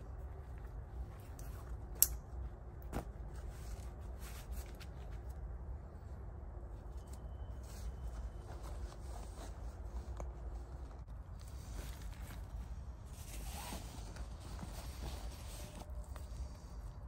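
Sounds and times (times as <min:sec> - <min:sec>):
gloves rustling: 0:00.0 - 0:17.0.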